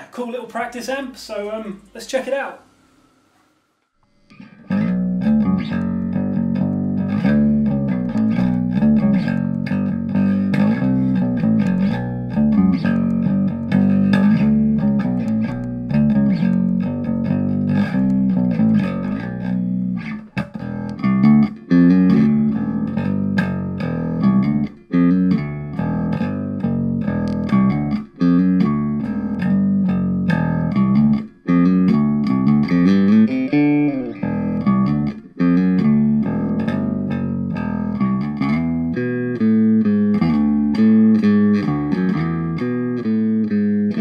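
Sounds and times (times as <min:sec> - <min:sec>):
bass guitar plucked notes: 0:04.4 - 0:44.0.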